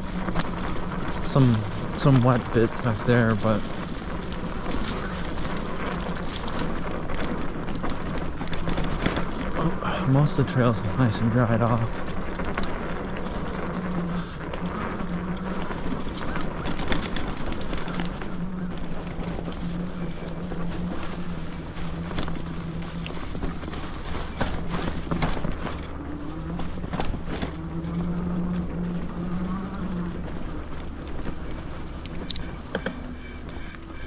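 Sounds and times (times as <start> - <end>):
electric motor whining: 0.0 - 34.0
tyre and wind noise: 0.0 - 34.0
tyres crackling over leaves: 0.0 - 34.0.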